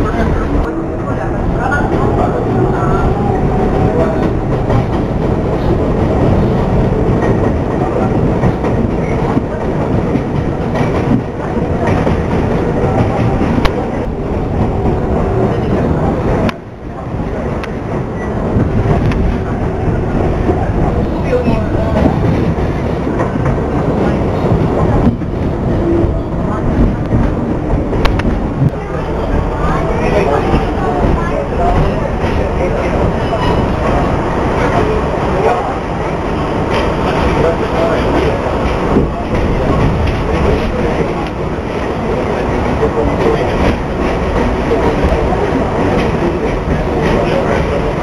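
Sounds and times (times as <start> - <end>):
train wheels rumbling: 0.0 - 48.0.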